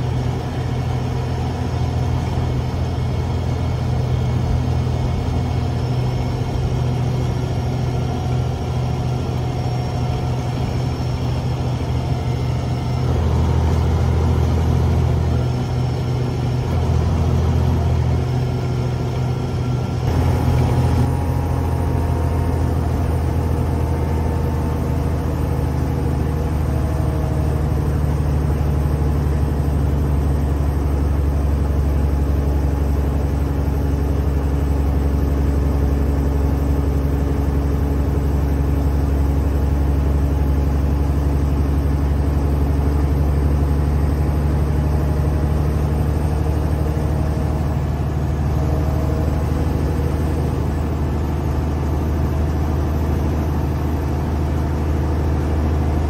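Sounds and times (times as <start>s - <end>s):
bus diesel engine droning: 0.0s - 56.0s
road noise: 0.0s - 56.0s.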